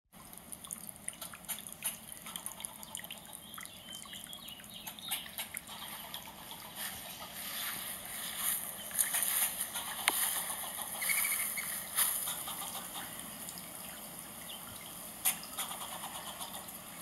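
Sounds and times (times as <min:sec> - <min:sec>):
small birds chirping: 0:01.2 - 0:16.8.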